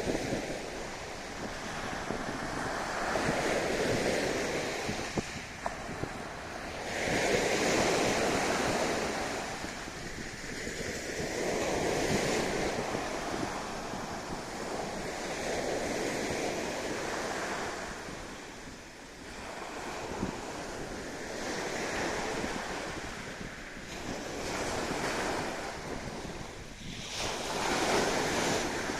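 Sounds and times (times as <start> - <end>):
waves washing onto shore: 0.0 - 28.9
wind rumbling on microphone: 0.0 - 28.9.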